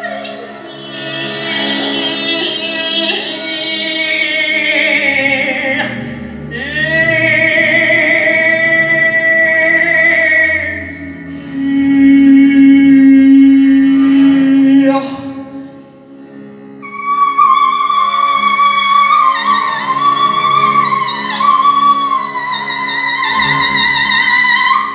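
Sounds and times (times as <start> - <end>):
low drone: 0.0 - 24.9.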